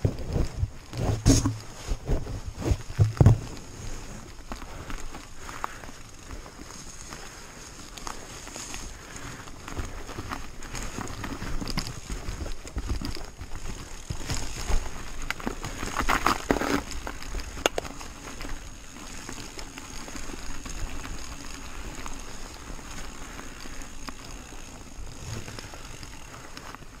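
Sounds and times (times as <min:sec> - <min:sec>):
crunching: 0:00.0 - 0:26.9
bike rattles and knocks: 0:00.0 - 0:27.0
bike tyres on gravel and snow: 0:00.0 - 0:27.0.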